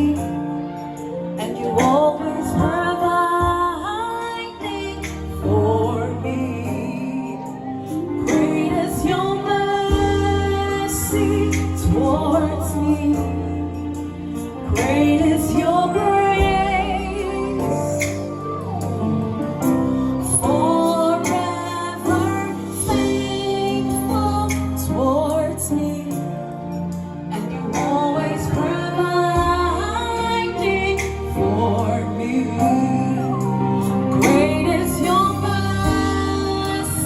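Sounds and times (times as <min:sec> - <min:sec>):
deep bass line: 0:01.8 - 0:37.0.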